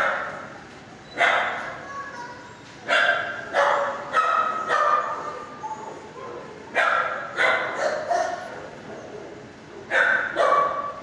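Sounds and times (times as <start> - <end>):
dogs barking with echo: 0.0 - 0.5, 1.2 - 1.8, 2.9 - 11.0.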